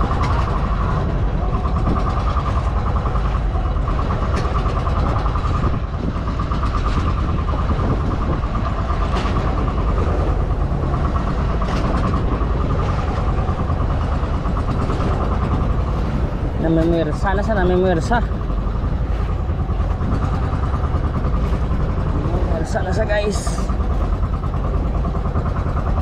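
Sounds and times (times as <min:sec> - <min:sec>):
small boat engine running: 0:00.0 - 0:26.0.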